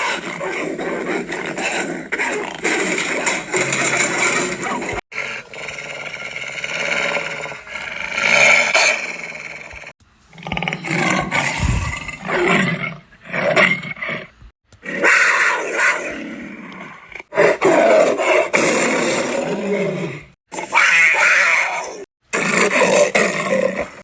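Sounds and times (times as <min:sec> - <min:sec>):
big cat roaring and snarling: 0:00.0 - 0:24.0.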